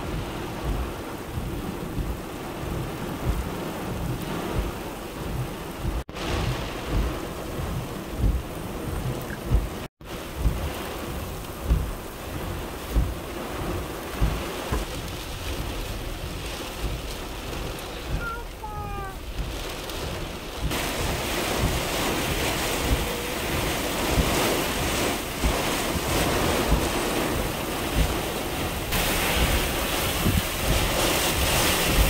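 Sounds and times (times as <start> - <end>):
heavy rain: 0.0 - 32.0
low rumbles and thumps: 0.0 - 32.0.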